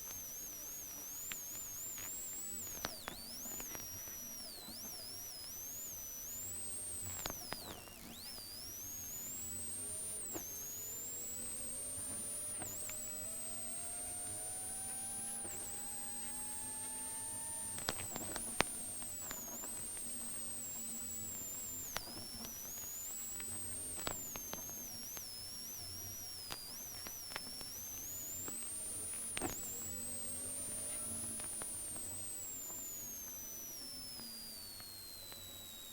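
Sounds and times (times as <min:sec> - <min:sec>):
faint engine tones: 0:00.0 - 0:35.8
high-pitched engine whine: 0:00.0 - 0:35.9
sharp clicks: 0:00.0 - 0:35.9.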